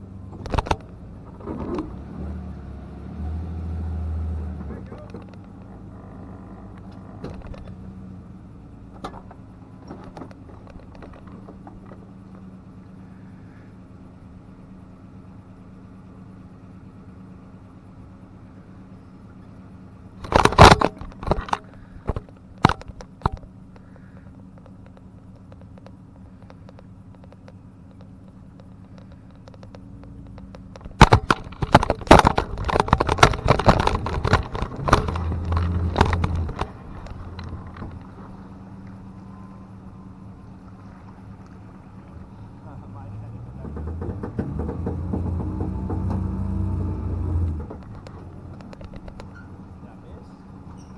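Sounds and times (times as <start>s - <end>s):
engine idling: 4.2s - 50.9s.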